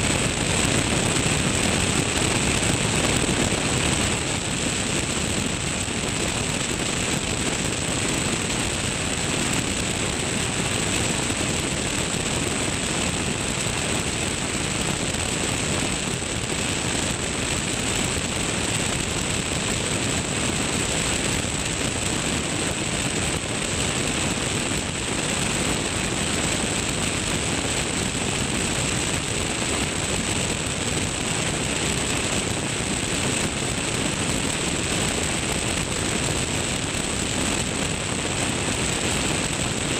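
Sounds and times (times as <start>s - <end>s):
light aircraft engine and propeller: 0.0s - 39.9s
wind rush: 0.0s - 39.9s.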